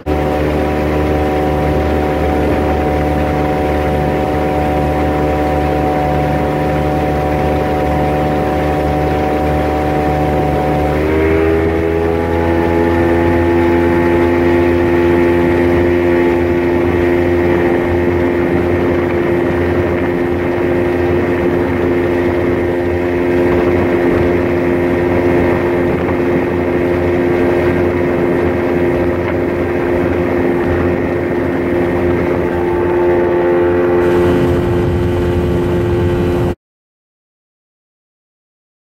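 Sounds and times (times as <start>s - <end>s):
outboard motor droning: 0.0s - 36.6s.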